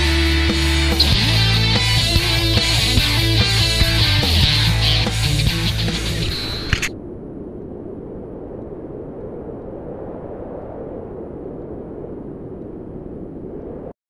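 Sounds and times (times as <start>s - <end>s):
steady low rumbling: 0.0s - 13.9s.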